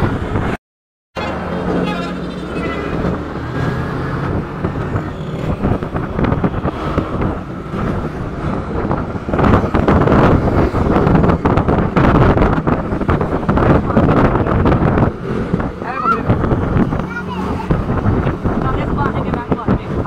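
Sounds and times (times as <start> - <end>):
wind rushing over microphone: 0.0 - 0.6, 1.4 - 20.0.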